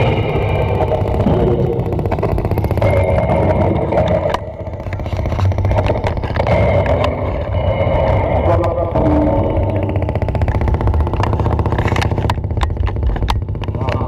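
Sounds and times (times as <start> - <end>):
electronic noise music: 0.0 - 14.0.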